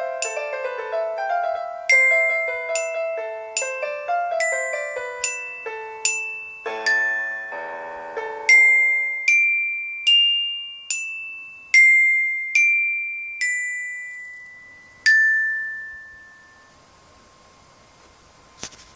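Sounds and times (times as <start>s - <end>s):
glockenspiel notes slow melody: 0.0s - 16.8s.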